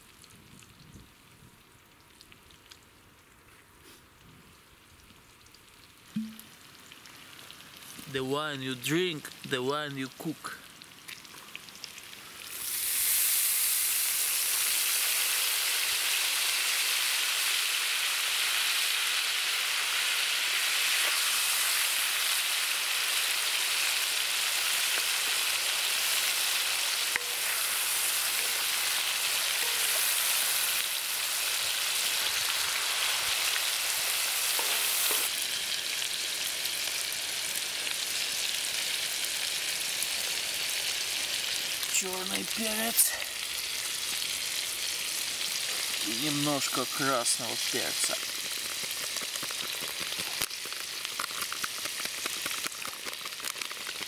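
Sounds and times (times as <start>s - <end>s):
meat and onions sizzling: 5.2s - 54.0s.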